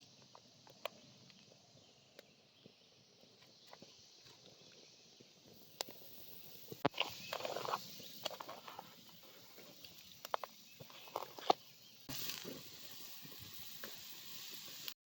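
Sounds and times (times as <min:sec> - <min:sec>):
campfire crackling: 0:00.0 - 0:15.0
soft hiss: 0:00.0 - 0:15.0
fire pops: 0:00.1 - 0:15.0.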